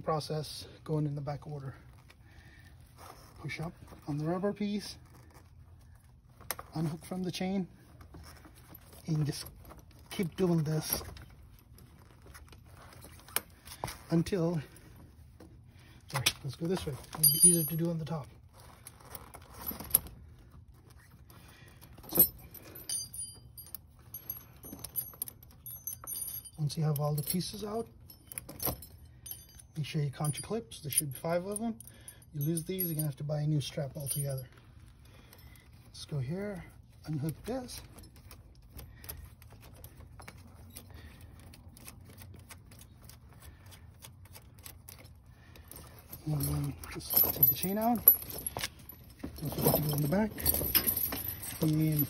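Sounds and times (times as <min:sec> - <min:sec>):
low background hum: 0:00.0 - 0:52.0
chain links clinking and jangling: 0:00.6 - 0:52.0.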